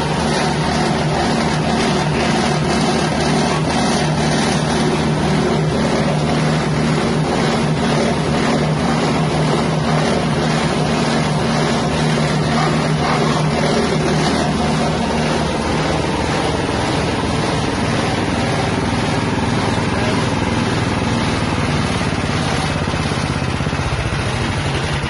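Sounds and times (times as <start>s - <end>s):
grinding machine engine drone: 0.0s - 25.0s.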